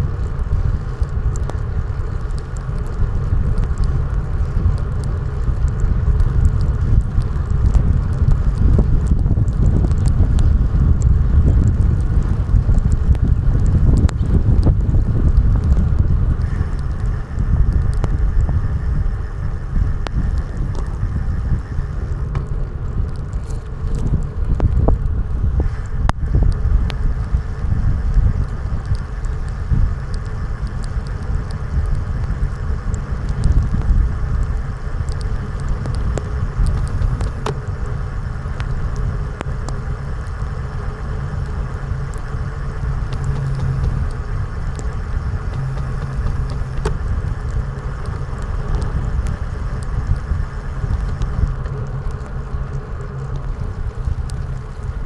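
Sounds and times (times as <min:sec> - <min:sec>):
faint ticks: 0:00.0 - 0:55.0
wind and road noise: 0:00.0 - 0:55.0.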